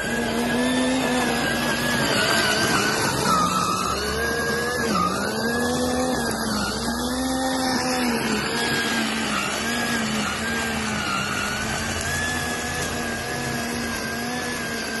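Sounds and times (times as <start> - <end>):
weed trimmer motor whine: 0.0 - 15.0.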